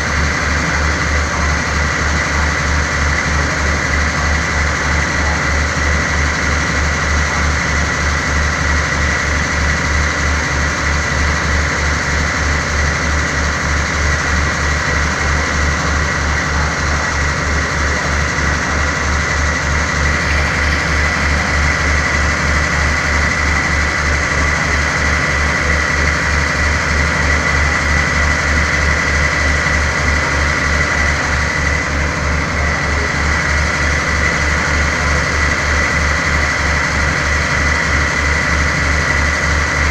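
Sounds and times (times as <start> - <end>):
diesel train engine idling: 0.0 - 39.9.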